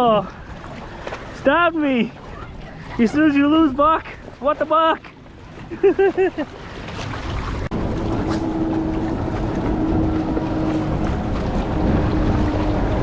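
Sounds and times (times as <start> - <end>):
personal watercraft engines droning: 0.0 - 13.0.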